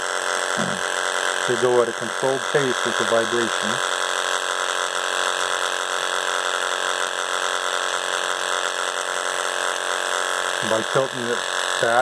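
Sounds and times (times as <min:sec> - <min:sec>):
vibrating seeder buzzing: 0:00.0 - 0:12.0.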